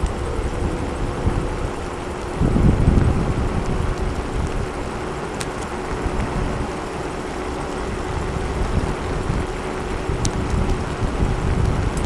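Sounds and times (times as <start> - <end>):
sharp ticks: 0.0 - 12.0
steady hum: 0.0 - 12.0
wind buffeting microphone: 0.0 - 12.0.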